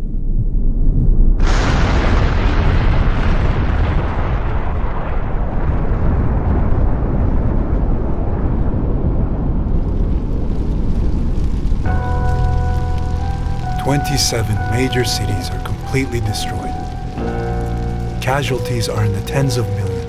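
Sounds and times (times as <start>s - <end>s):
huge explosion rumble: 0.0s - 20.0s.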